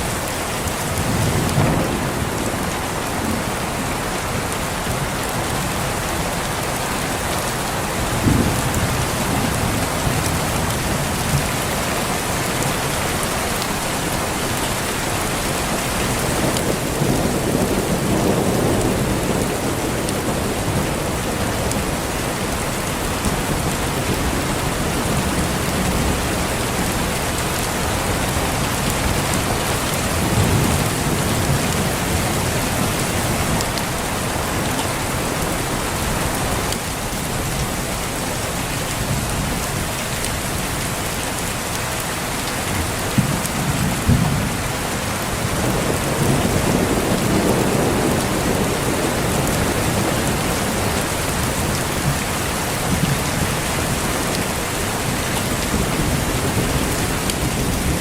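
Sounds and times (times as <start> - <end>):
heavy rain: 0.0 - 58.0
thunder clap and rumble: 0.1 - 6.3, 7.9 - 37.7, 42.7 - 58.0.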